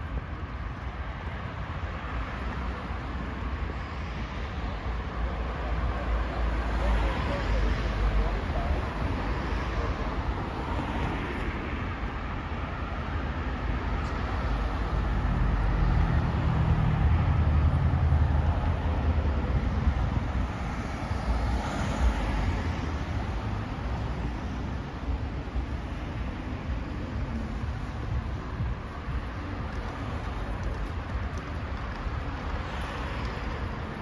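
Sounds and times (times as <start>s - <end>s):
street traffic noise: 0.0s - 34.0s.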